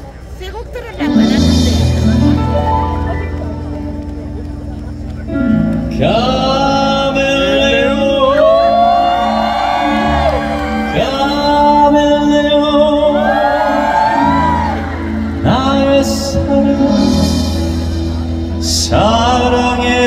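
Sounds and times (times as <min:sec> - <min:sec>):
live pop band music: 0:00.0 - 0:20.0.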